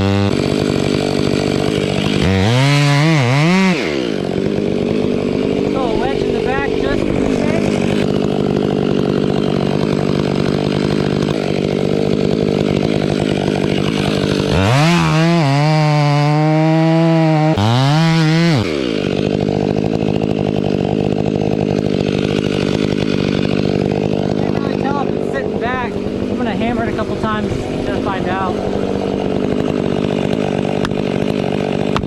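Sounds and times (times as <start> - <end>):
chainsaw engine revving: 0.0 - 32.0.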